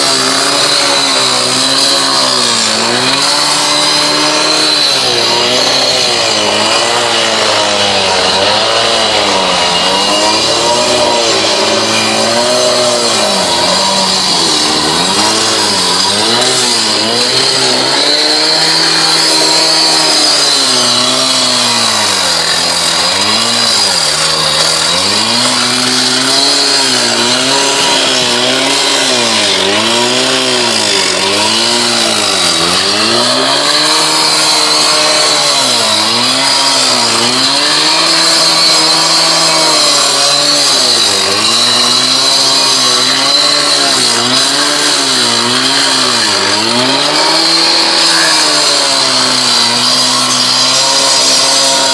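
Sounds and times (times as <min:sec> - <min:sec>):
cut-off saw cutting concrete: 0:00.0 - 0:51.9.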